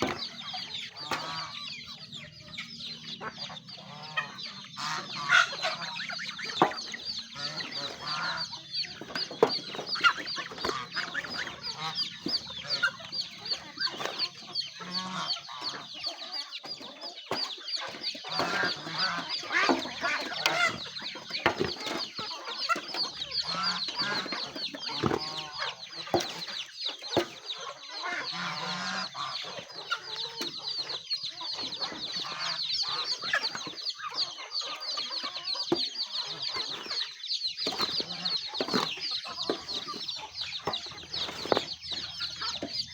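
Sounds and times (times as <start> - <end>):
chickens clucking: 0.0 - 42.9
chicks peeping: 0.0 - 42.9.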